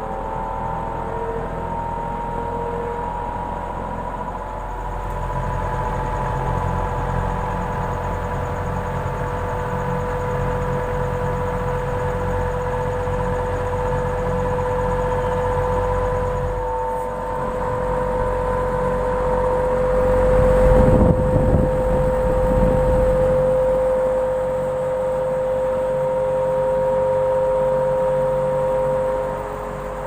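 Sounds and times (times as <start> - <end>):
fan motor humming: 0.0 - 30.0
steady whining tone: 0.0 - 30.0.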